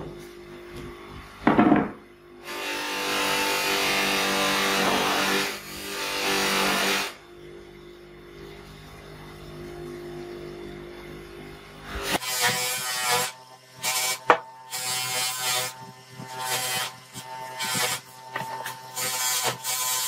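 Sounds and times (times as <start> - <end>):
bench grinder humming: 1.6 - 20.0.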